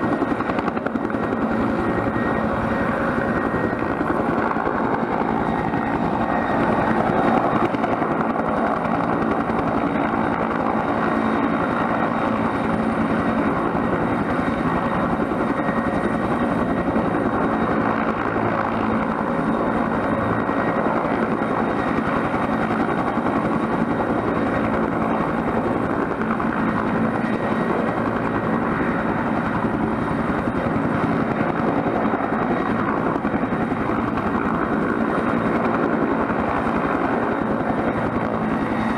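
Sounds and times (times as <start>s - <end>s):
helicopter engine and rotor: 0.0s - 38.9s
high turbine whine: 0.0s - 38.9s.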